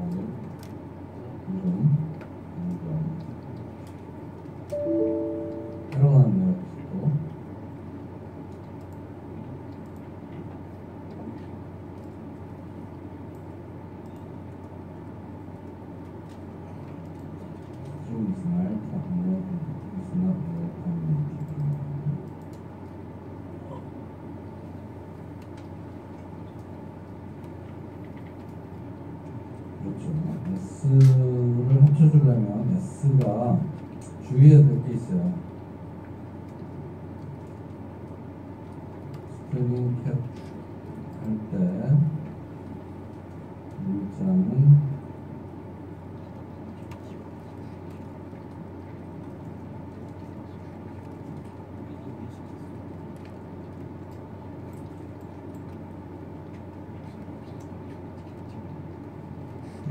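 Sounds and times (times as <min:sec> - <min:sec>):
room hum: 0:00.0 - 0:59.9.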